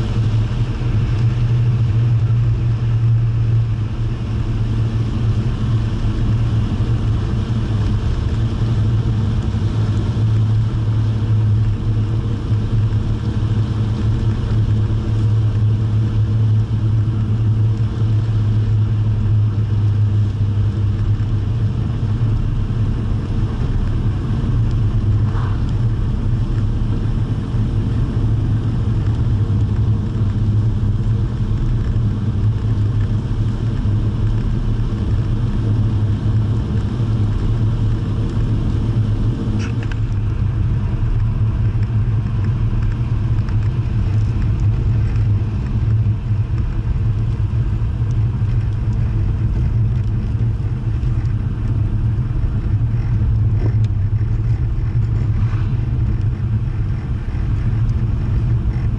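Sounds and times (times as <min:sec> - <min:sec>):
car engine droning: 0:00.0 - 0:58.9
road and wind noise: 0:00.0 - 0:58.9.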